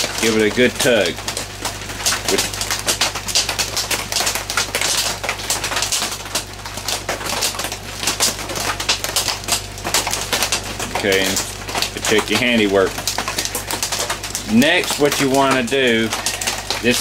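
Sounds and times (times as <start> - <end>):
heavy rain on a tin roof: 0.0 - 17.0
steady low hum: 0.0 - 17.0.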